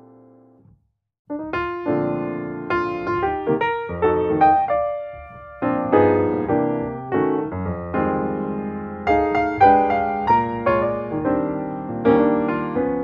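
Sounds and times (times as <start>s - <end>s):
piano music: 0.0s - 0.6s, 1.3s - 13.0s.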